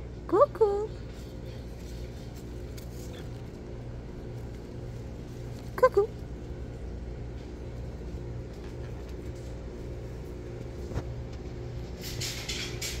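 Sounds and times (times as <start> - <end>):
pulsing low hum: 0.0 - 12.2
low mechanical rumble: 0.0 - 13.0.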